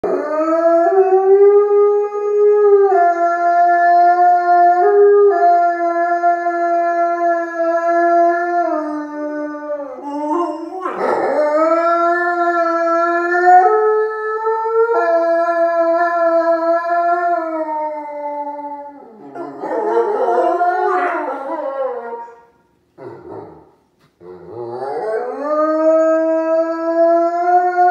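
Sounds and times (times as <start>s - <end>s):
dog howling: 0.0s - 22.5s, 24.5s - 27.9s.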